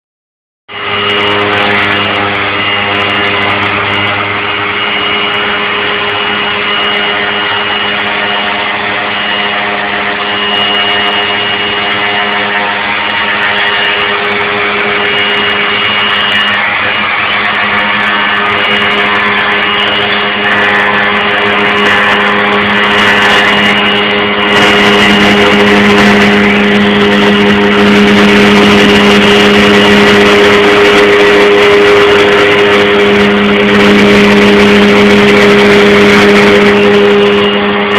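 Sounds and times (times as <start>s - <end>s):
milling machine motor whine: 0.7s - 37.9s.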